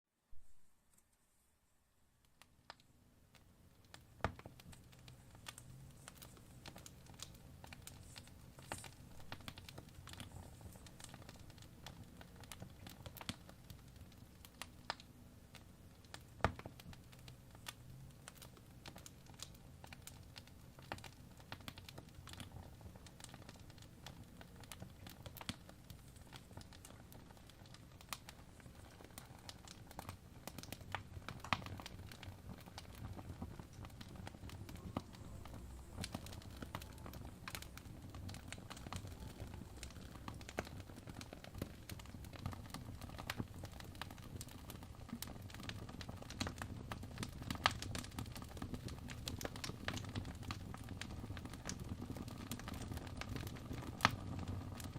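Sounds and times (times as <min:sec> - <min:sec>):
wood fire crackling: 0:02.1 - 0:54.9
low rumble of flame: 0:03.3 - 0:54.9.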